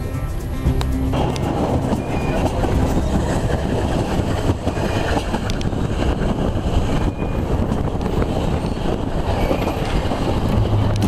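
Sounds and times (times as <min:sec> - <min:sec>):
train rumbling on track: 0:00.0 - 0:11.0
wind buffeting microphone: 0:00.0 - 0:11.0.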